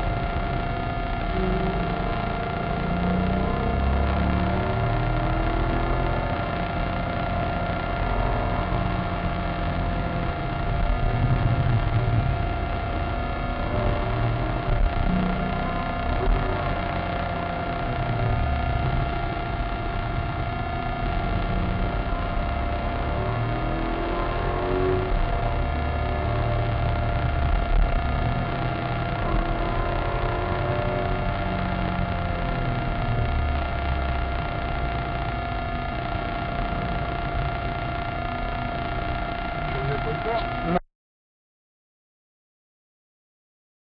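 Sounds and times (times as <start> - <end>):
car engine revving: 0.0 - 40.8
road noise: 0.0 - 40.8.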